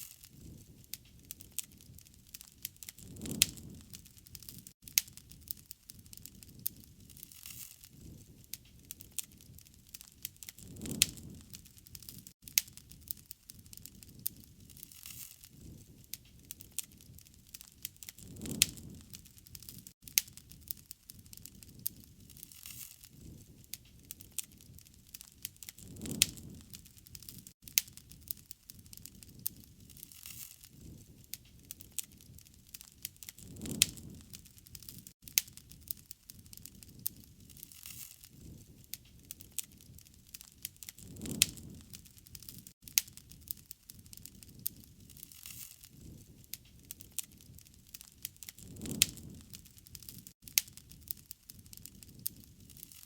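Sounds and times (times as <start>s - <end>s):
campfire crackling and popping: 0.0s - 53.0s
low rush of burning: 0.2s - 14.9s, 15.5s - 22.5s, 23.1s - 53.0s.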